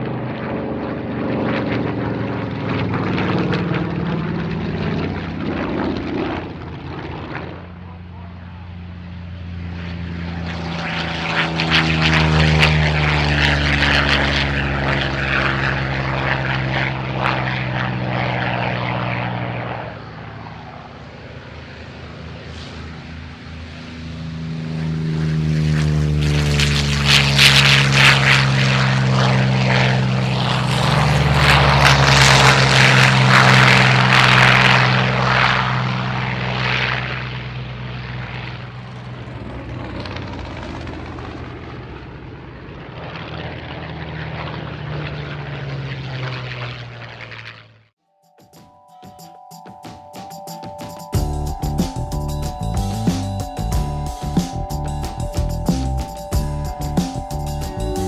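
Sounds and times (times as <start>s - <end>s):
propeller plane flying past: 0.0s - 48.0s, 51.1s - 58.0s.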